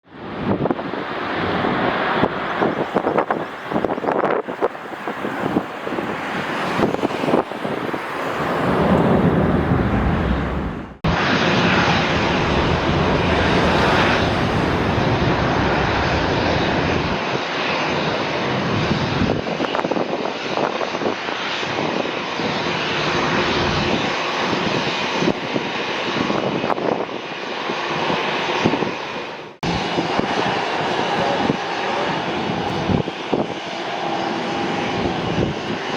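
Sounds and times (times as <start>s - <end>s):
jet engines running loud: 0.0s - 35.9s.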